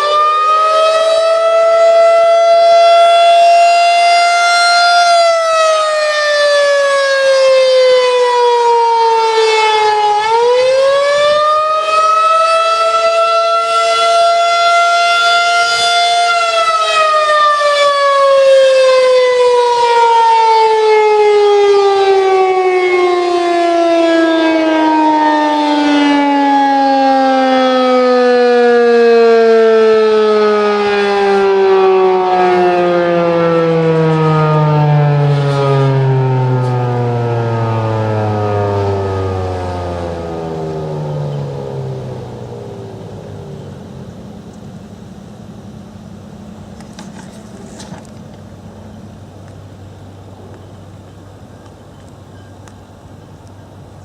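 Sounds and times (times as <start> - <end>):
tornado siren: 0.0 - 54.0.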